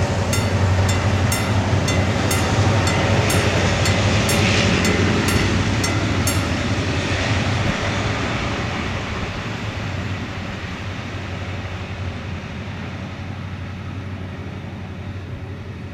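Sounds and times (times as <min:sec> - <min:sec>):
freight train rumbling past: 0:00.0 - 0:15.9.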